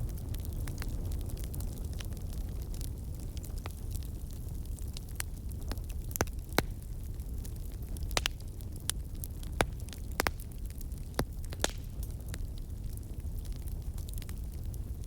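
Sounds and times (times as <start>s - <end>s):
campfire crackling: 0.0s - 15.0s
low fire rumble: 0.0s - 15.0s.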